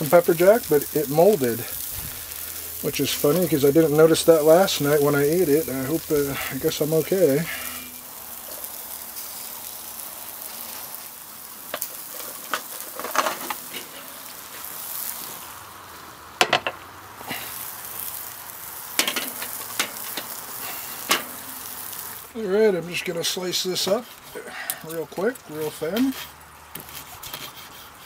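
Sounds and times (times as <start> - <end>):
chips sizzling in oil: 0.0 - 27.3.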